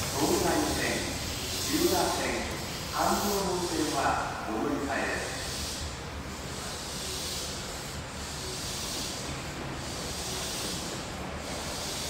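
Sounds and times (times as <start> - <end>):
subway train hissing: 0.0 - 12.0.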